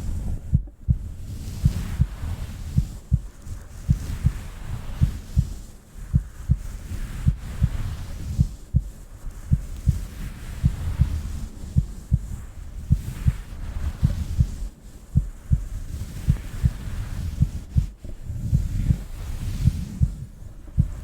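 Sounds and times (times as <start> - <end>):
low rumble: 0.0 - 21.0
slow heartbeat thumps: 0.0 - 21.0.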